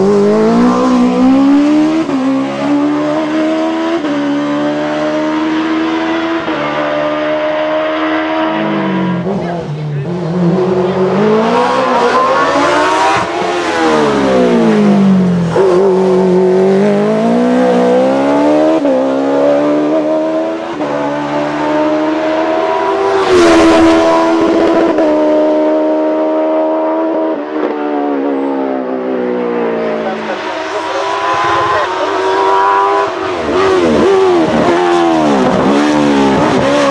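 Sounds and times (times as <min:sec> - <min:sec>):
motorcycle engine revving high: 0:00.0 - 0:27.4, 0:29.6 - 0:36.9.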